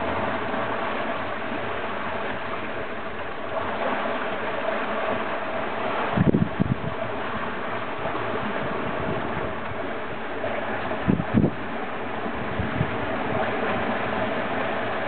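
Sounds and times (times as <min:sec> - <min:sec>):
faint steady hum: 0:00.0 - 0:15.0
water and wind rushing: 0:00.0 - 0:15.0.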